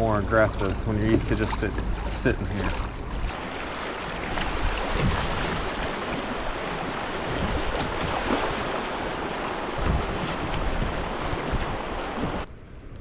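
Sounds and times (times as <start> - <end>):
wind thumps on microphone: 1.0 - 12.5
river water rushing: 1.2 - 12.5.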